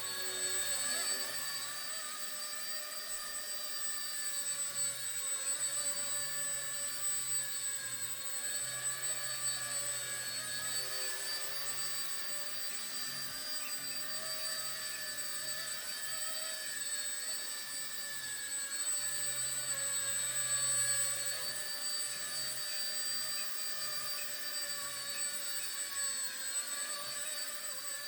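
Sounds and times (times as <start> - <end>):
rc helicopter whining: 0.0 - 28.0.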